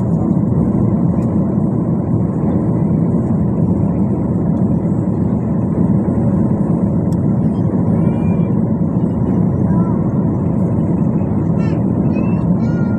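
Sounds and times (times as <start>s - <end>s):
airliner cabin rumble: 0.0s - 12.9s.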